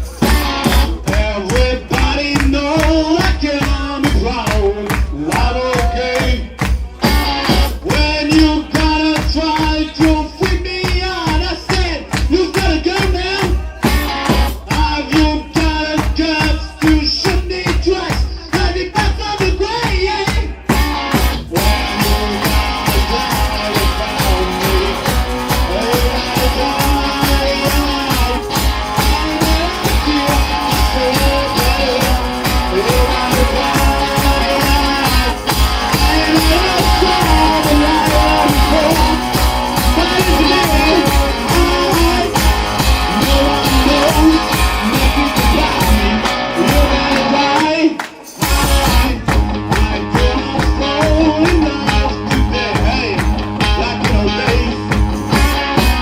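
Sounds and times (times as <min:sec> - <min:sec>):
blues rock band playing: 0:00.0 - 0:56.0
guitar: 0:00.0 - 0:56.0.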